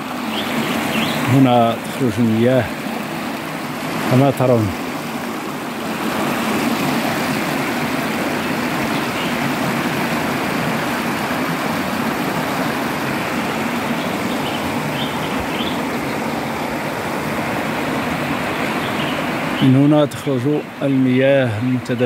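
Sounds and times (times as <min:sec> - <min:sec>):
water rushing over a weir: 0:00.0 - 0:22.0.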